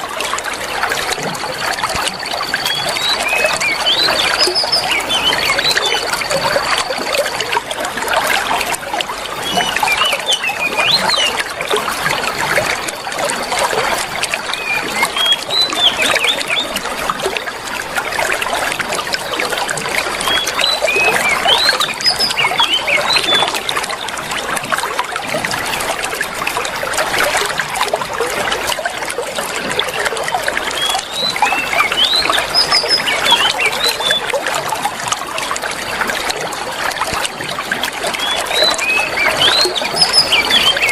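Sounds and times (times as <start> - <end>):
running water trickling: 0.0 - 40.9.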